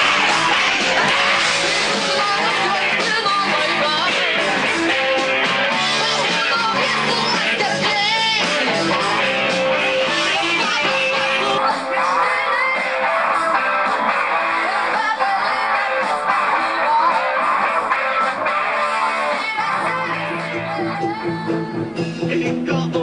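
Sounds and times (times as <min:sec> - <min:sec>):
rock music with guitar: 0:00.0 - 0:23.0.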